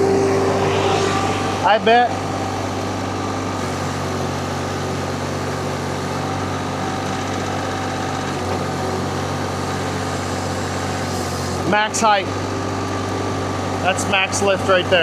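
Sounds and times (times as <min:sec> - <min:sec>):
skid steer engine under load: 0:02.5 - 0:15.0.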